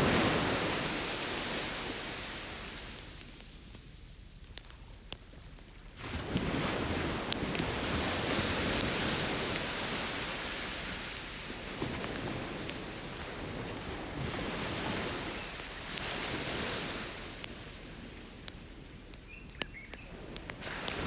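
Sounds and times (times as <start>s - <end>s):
ocean waves on a beach: 0.0s - 3.9s, 5.9s - 21.0s
campfire crackling and popping: 0.1s - 21.0s.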